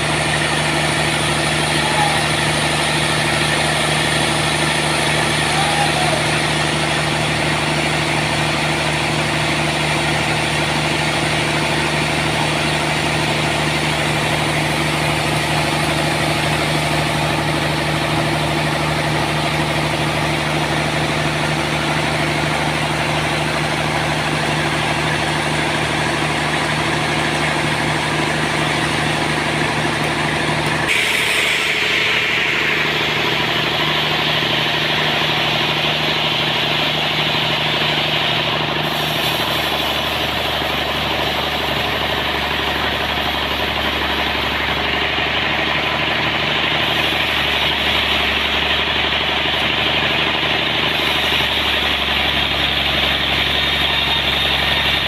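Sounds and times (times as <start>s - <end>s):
engine-driven sawmill running: 0.0s - 55.0s.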